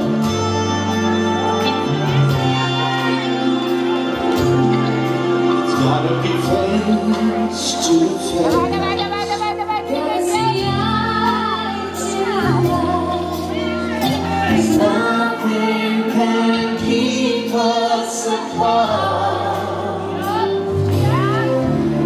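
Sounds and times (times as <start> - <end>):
waltz music with singing voice: 0.0 - 22.0.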